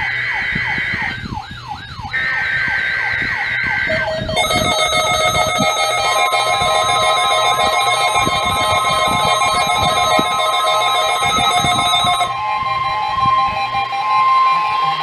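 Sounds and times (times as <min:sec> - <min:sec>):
electronic alert alarms: 0:00.0 - 0:12.6.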